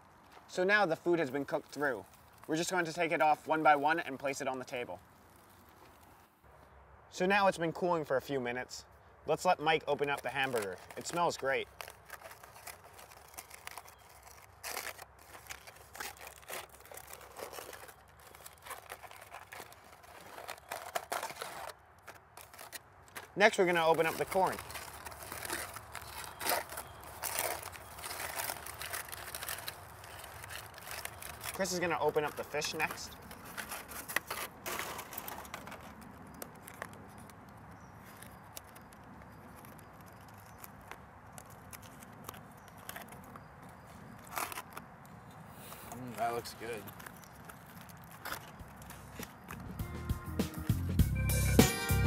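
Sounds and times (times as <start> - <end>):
foil packet crinkling: 0.0 - 6.3, 9.4 - 50.0.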